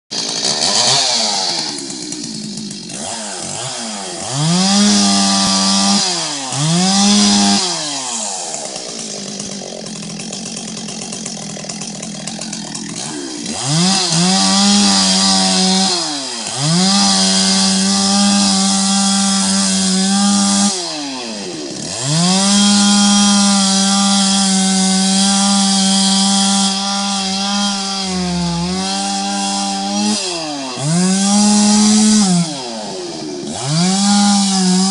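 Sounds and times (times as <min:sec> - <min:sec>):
chainsaw cutting roots in soil: 0:00.1 - 0:34.9.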